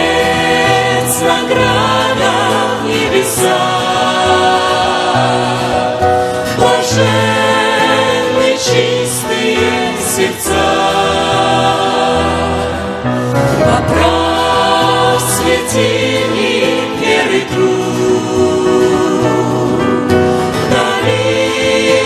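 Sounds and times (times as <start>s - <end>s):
choir singing a hymn: 0.0s - 22.0s.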